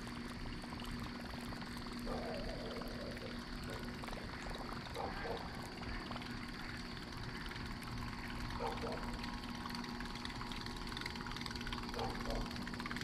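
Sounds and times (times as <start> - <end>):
fishing lure churning water: 0.0 - 13.0
fishing reel reeling: 0.0 - 13.0.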